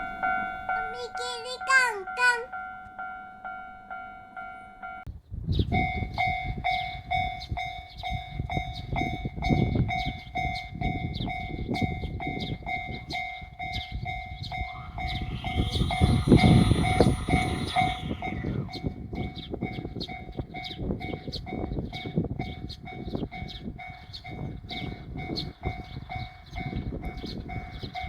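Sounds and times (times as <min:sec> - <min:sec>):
railroad crossing alarm ringing: 0:00.0 - 0:05.1, 0:05.7 - 0:28.0
passing train rumbling: 0:00.0 - 0:28.0.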